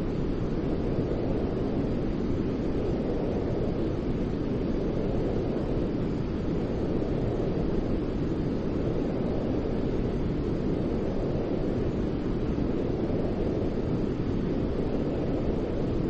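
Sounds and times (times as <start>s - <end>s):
deep rumbling white noise: 0.0s - 16.0s.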